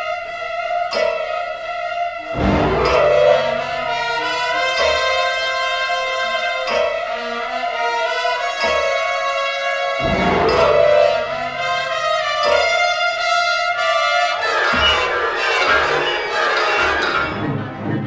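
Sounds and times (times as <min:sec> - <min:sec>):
orchestral brass and strings chords: 0:02.2 - 0:18.0.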